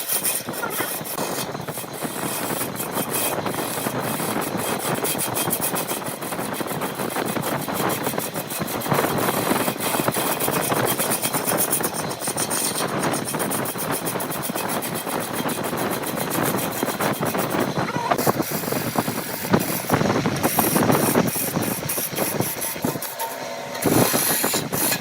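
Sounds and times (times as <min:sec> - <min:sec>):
woodworking machine cutting wood: 0:00.0 - 0:25.0.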